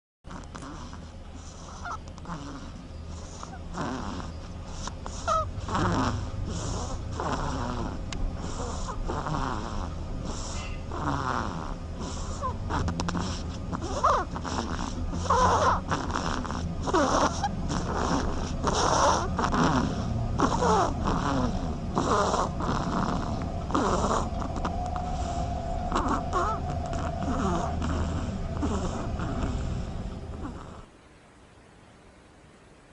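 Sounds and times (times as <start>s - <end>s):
duck snoring: 0.3s - 30.9s.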